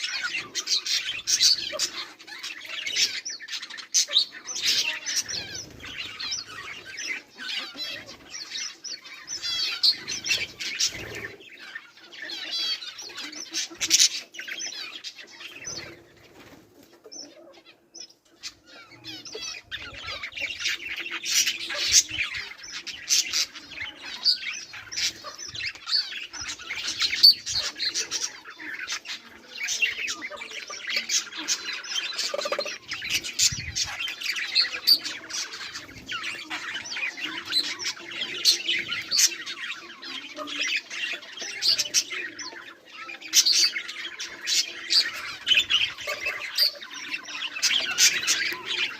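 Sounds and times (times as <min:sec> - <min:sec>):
budgerigars chirping and chattering: 0:00.0 - 0:48.9.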